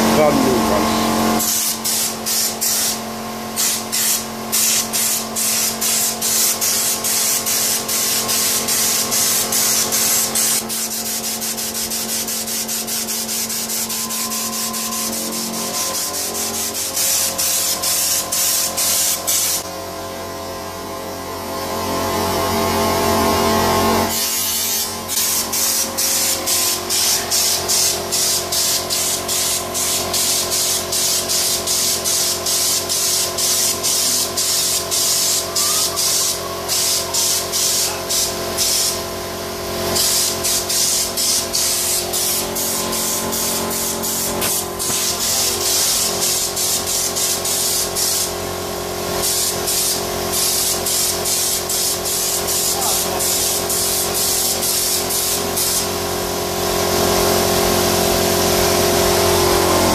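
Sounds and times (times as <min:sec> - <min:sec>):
spray gun air hissing: 0:01.4 - 0:19.7, 0:24.1 - 0:39.2, 0:39.9 - 0:56.1
steady hum: 0:03.6 - 0:59.9.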